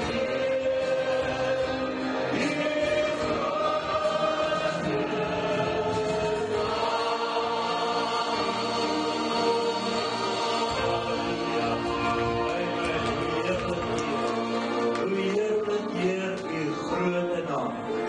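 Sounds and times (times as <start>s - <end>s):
group singing praise song: 0.0s - 15.0s
keyboard: 0.0s - 18.0s
piano: 0.0s - 18.0s.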